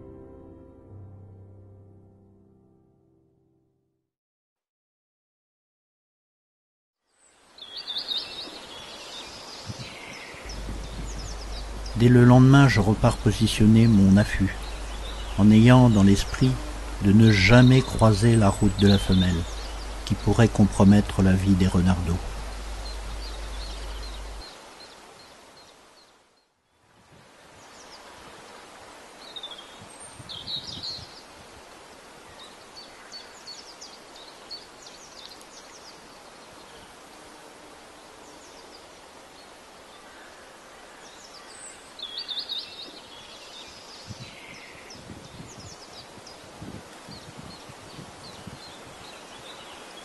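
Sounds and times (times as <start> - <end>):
faint hiss: 7.0 - 50.0
small birds chirping: 7.1 - 26.8, 27.6 - 31.4, 32.1 - 37.1, 38.0 - 50.0.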